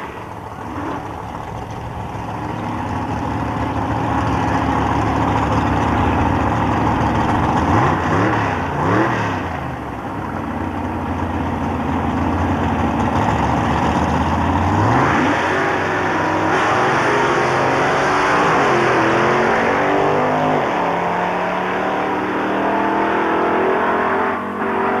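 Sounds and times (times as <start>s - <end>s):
drag racing engines revving: 0.0s - 25.0s.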